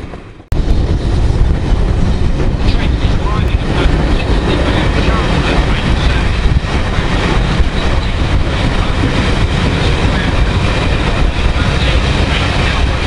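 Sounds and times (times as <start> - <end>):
passenger train running at speed: 0.0 - 13.0
rushing air: 0.0 - 13.0.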